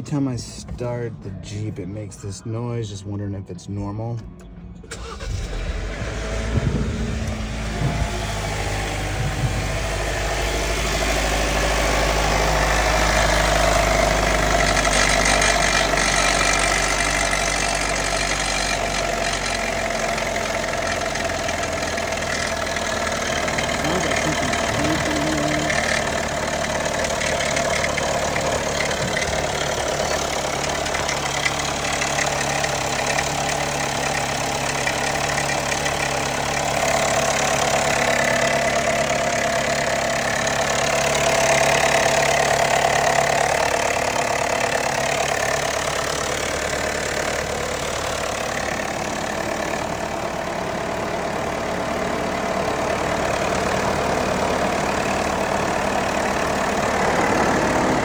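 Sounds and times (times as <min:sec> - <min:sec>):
car engine idling: 0:00.0 - 0:58.0
engine rattle: 0:04.2 - 0:58.0.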